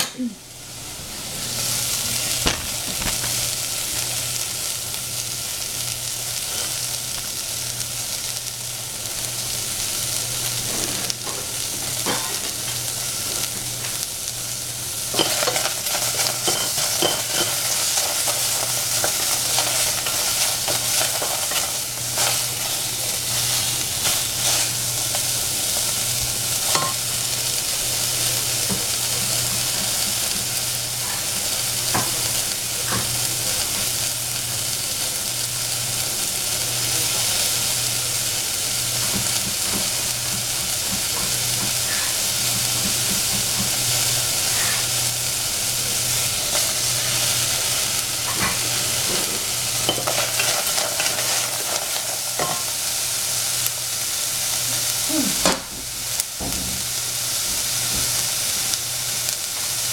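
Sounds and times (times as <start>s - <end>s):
vegetables sizzling in a pan: 0.0s - 59.9s.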